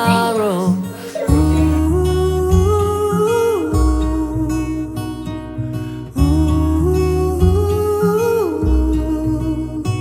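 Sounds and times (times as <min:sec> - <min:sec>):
song with acoustic guitar: 0:00.0 - 0:10.0.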